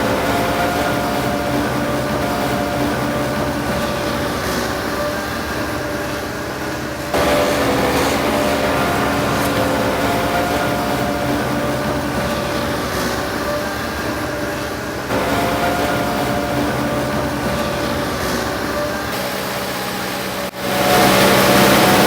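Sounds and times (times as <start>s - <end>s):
diesel machine engine running: 0.0s - 22.0s.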